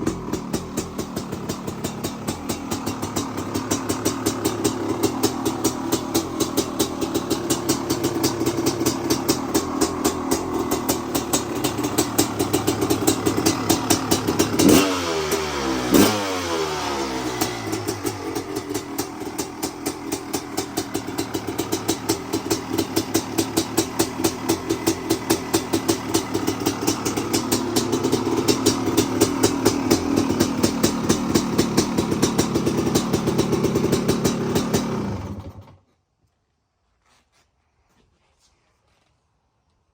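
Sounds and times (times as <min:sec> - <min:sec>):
two-stroke motorcycle engine revving: 0:00.0 - 0:35.8.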